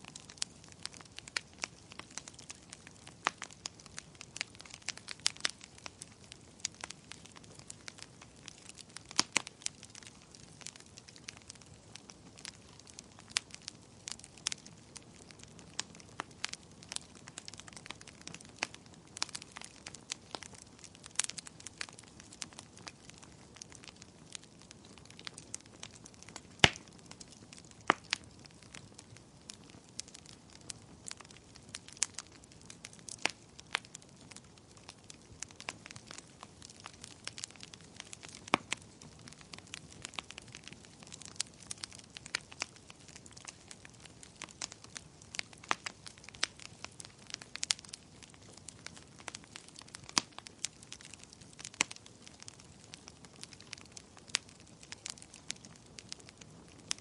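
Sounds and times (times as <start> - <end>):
soft hiss of fire: 0.0 - 57.0
wood fire crackling and popping: 0.0 - 57.0.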